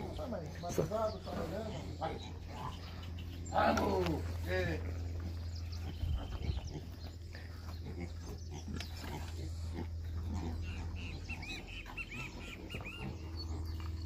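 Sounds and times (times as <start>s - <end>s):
pigs squealing: 0.0s - 3.9s, 5.0s - 14.0s
pigs grunting: 0.0s - 14.0s.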